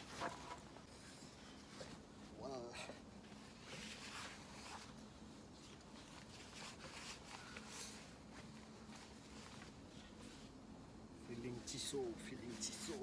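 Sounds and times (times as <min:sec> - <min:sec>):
jacket and straps rustling: 0:00.0 - 0:13.0.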